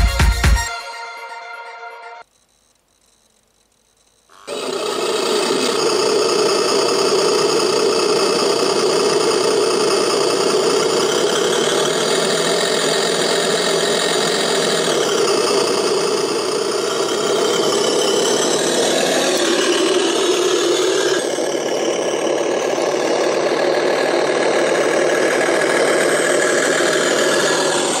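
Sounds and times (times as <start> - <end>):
electronic engine idle sound: 2.2 - 28.0.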